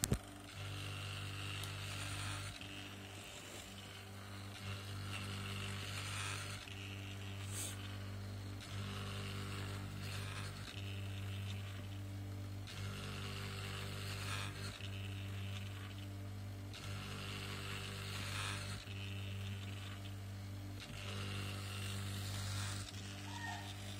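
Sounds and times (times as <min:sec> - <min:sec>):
stepper motors humming: 0:00.0 - 0:23.9.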